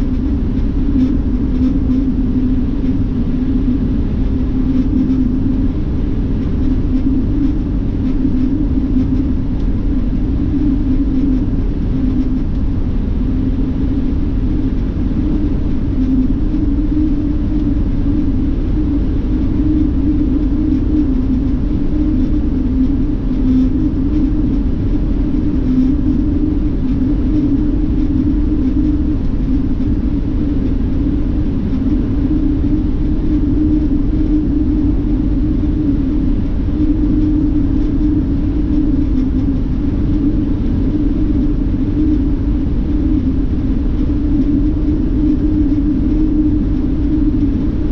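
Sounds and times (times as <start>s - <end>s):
bus cabin drone at speed: 0.0s - 47.9s.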